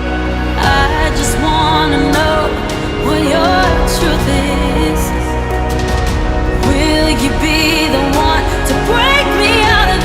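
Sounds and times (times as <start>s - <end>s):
song with sung melody and beat: 0.0s - 10.0s.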